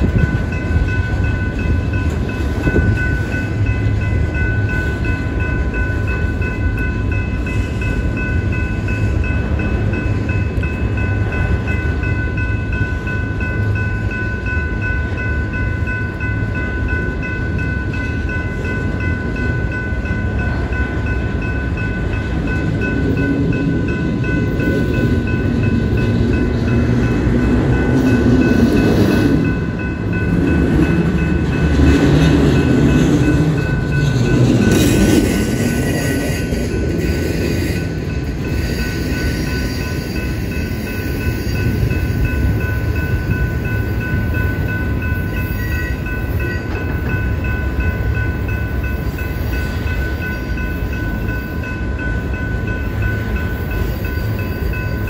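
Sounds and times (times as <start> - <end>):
high ringing tone: 0.0 - 55.0
train wheels rumbling on rail: 0.0 - 55.0.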